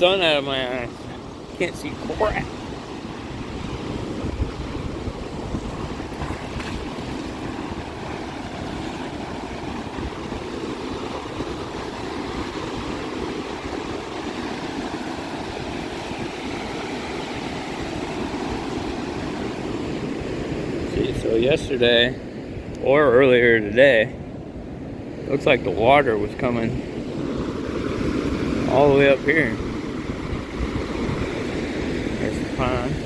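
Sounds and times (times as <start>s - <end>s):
lake waves breaking on sand: 0.0s - 33.0s
wind buffeting microphone: 0.0s - 33.0s.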